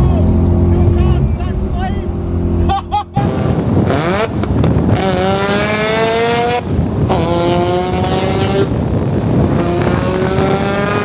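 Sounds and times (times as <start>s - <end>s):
rotary engine accelerating: 0.0s - 11.0s.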